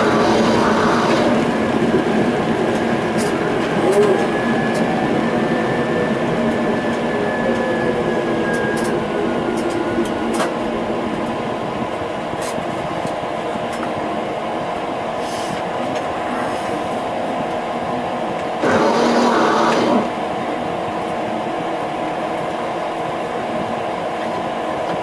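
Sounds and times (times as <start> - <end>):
tram rumble: 0.0 - 25.0.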